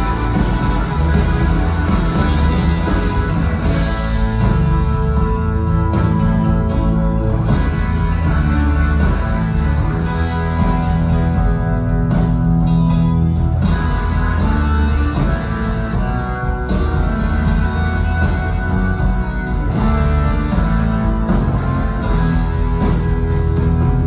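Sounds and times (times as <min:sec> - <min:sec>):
live blues rock band playing: 0:00.0 - 0:24.0.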